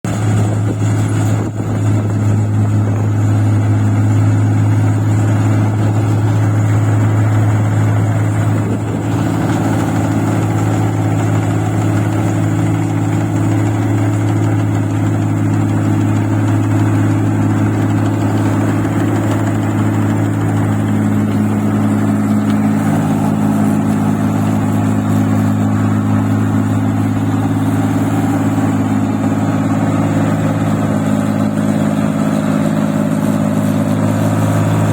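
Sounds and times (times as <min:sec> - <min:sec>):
machine engine running: 0:00.0 - 0:34.9.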